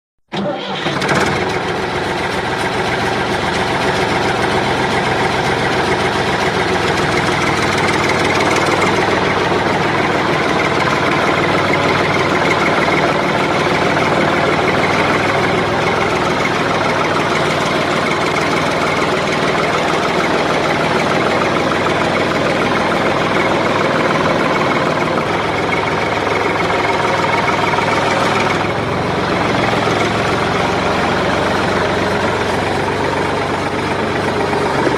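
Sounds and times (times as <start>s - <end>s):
mini tractor engine running: 0.3s - 34.9s.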